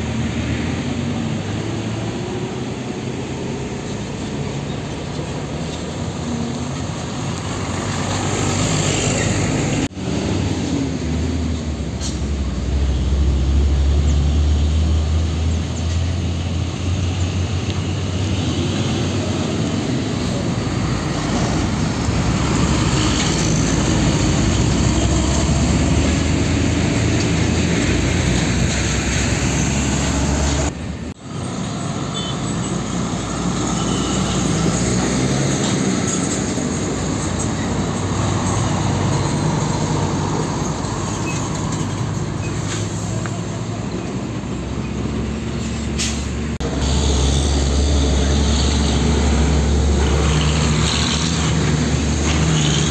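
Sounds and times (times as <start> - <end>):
diesel trucks passing: 0.0 - 52.9.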